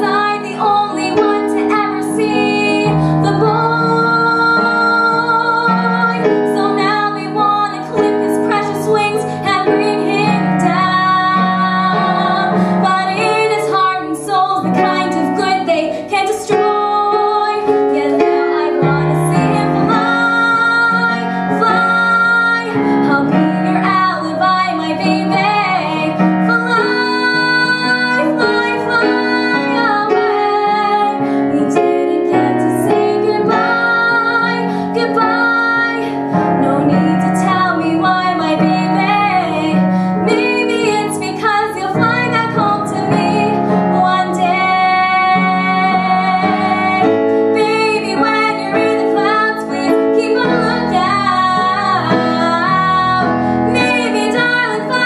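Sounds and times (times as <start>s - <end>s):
instrumental accompaniment: 0.0s - 55.0s
woman singing slow song: 0.0s - 55.0s.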